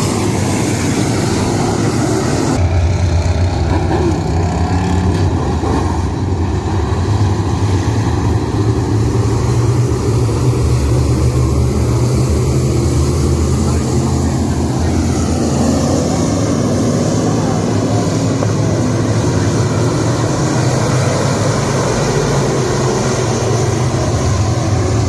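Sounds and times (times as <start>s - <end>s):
race car engines running: 0.0s - 25.0s.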